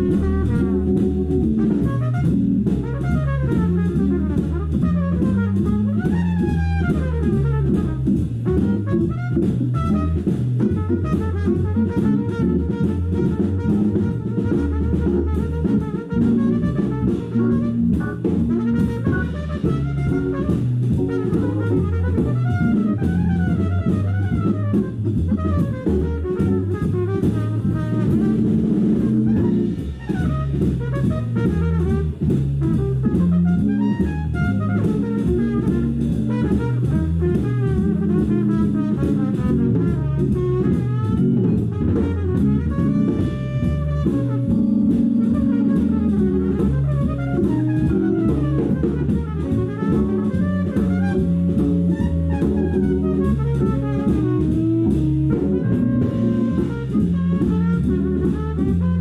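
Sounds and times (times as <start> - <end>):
swinging cymbals and drums: 0.0 - 58.9
bass line: 0.0 - 59.0
jazz trumpet solo: 0.0 - 59.0.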